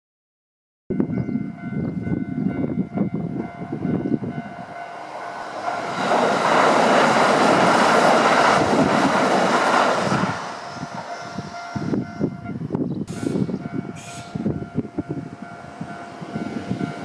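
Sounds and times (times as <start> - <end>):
electric train rumbling over bridge: 0.9 - 17.0.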